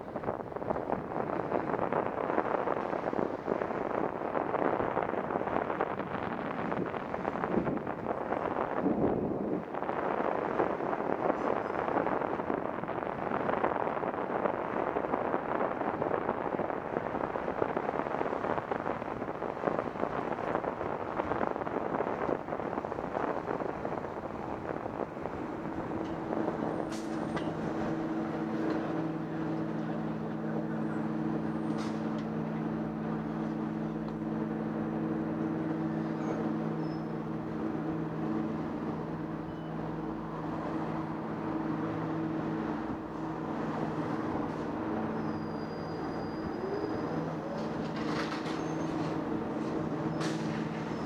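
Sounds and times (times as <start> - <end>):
low vehicle hum: 0.0 - 51.0
road noise: 0.0 - 51.0
wind rush: 0.0 - 51.0.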